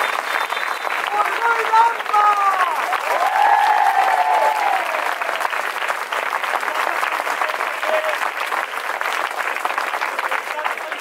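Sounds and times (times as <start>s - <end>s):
crowd applauding: 0.0s - 11.0s
crowd cheering: 0.0s - 11.0s.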